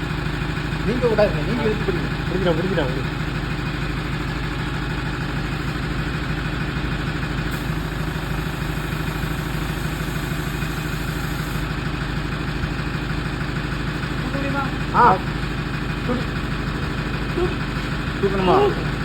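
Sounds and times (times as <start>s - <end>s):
chainsaw engine idling: 0.0s - 19.0s.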